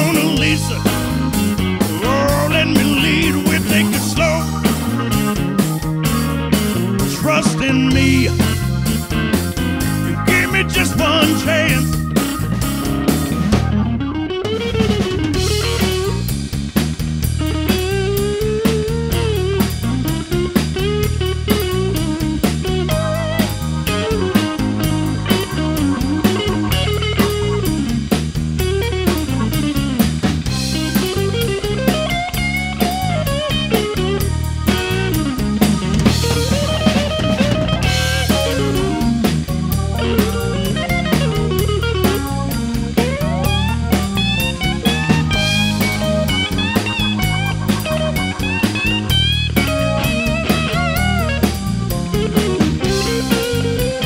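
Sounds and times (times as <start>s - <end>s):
electric guitar solo: 0.0s - 16.3s, 17.4s - 28.0s, 30.6s - 54.0s
bass line: 0.0s - 54.0s
drum kit: 0.0s - 54.0s.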